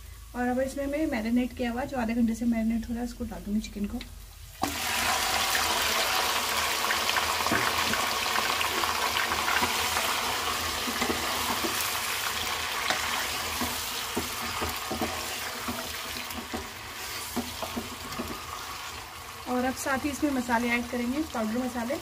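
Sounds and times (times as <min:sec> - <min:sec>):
chicken sizzling in oil: 0:04.2 - 0:22.0.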